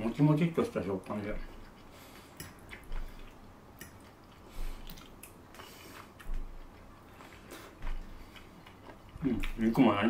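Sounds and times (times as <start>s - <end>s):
person chewing food: 1.4s - 9.8s.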